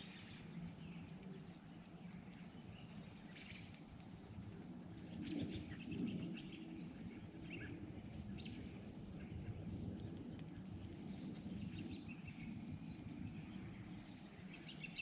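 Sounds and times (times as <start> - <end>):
low outdoor rumble: 0.0 - 15.0
songbirds chirping: 0.0 - 15.0.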